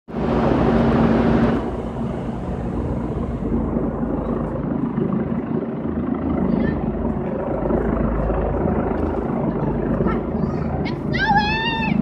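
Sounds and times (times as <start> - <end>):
outdoor rumble with low hum: 0.1 - 12.0.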